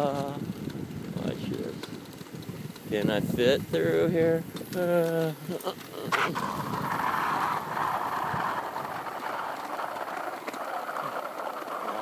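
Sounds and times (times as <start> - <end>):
bicycle rolling: 0.0 - 12.0.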